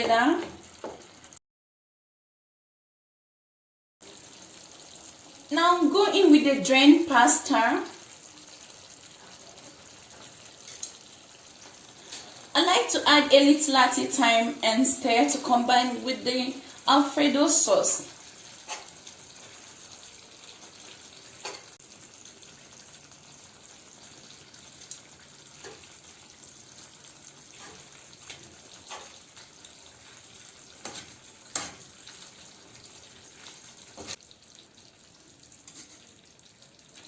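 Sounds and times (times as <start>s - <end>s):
sauce simmering hiss: 4.0s - 37.0s.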